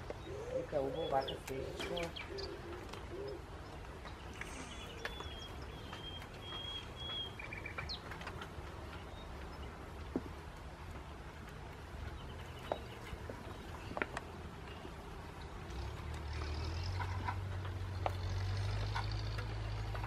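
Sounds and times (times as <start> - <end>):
birds chirping: 0.0 - 20.0
low steady background rumble: 0.0 - 20.0.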